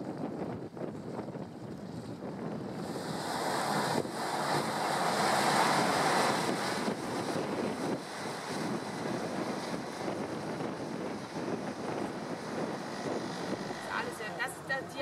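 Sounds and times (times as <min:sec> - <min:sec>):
wind on microphone: 0:00.0 - 0:15.0
churning propeller wash: 0:00.2 - 0:15.0.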